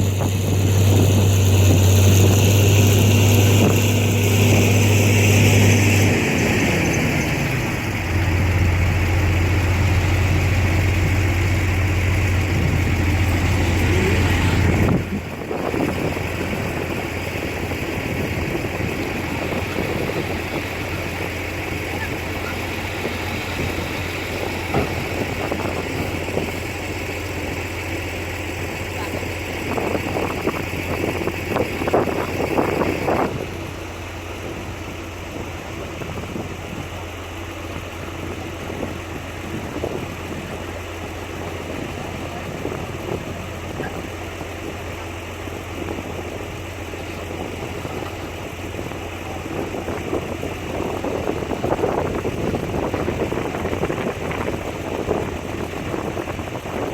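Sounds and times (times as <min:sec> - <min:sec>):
diesel earthmoving machinery engine: 0:00.0 - 0:56.9.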